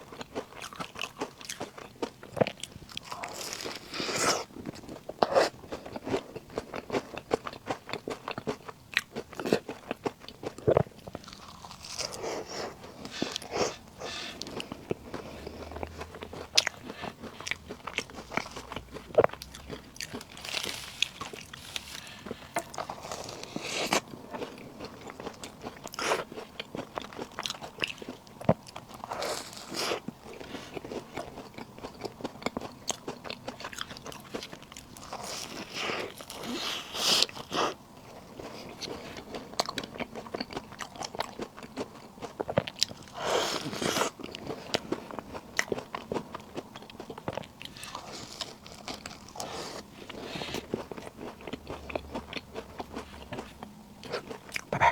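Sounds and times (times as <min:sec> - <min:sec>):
crunchy snack chewing: 0:00.0 - 0:54.9.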